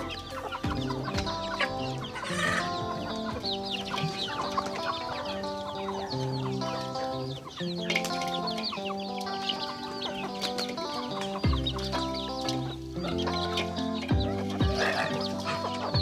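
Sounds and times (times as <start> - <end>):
chickens clucking: 0.0 - 16.0
melodic background music: 0.0 - 16.0.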